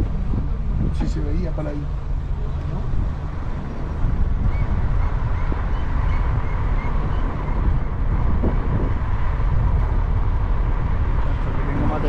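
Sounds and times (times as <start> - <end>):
car driving rumble: 0.0 - 12.0
wind buffeting microphone: 0.0 - 12.0.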